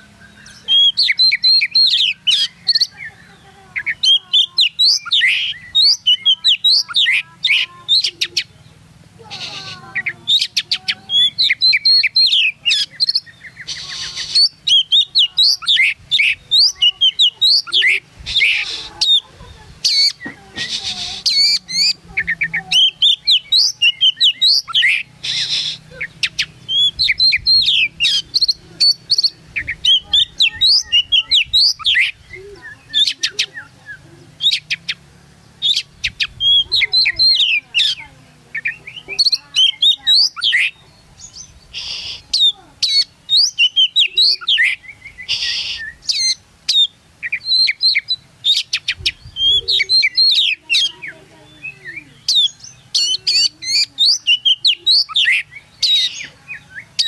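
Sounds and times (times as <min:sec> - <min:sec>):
bird singing whistles and chirps: 0:00.0 - 0:08.5, 0:09.4 - 0:35.0, 0:35.6 - 0:38.0, 0:38.6 - 0:57.0
harsh rasping bird notes: 0:00.0 - 0:57.0.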